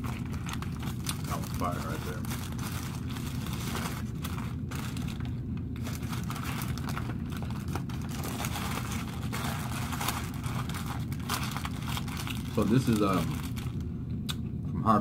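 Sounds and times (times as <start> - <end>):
paper wrapping crinkling: 0.0 - 13.9
steady low hum: 0.0 - 15.0.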